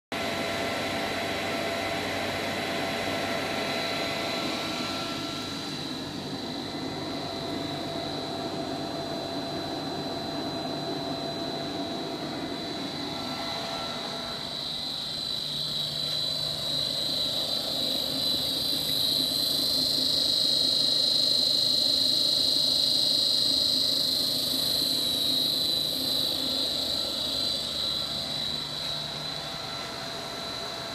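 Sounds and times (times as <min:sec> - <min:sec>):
motor drive whine and hum: 0:00.1 - 0:30.9.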